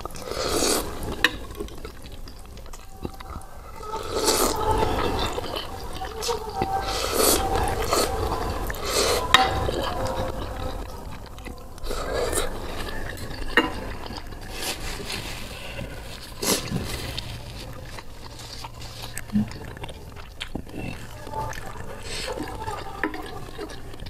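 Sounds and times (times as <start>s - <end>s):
chewing with full mouth: 0.0s - 24.0s
noodles being slurped: 0.0s - 24.0s.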